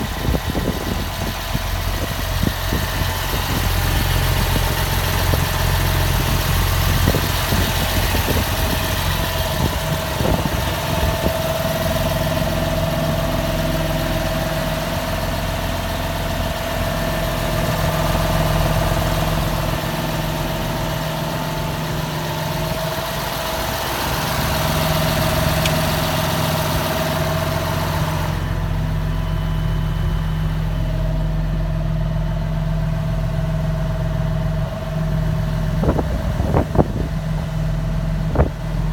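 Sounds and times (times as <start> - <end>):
steady whine: 0.0 - 38.9
tractor diesel engine idling: 0.0 - 38.9.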